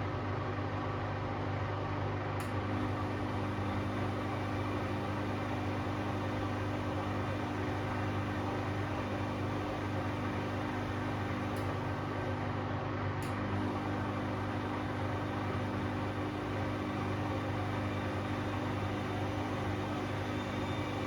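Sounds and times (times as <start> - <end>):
motor hum: 2.4 - 21.0
washing machine drum spinning: 2.7 - 12.4, 13.3 - 21.0.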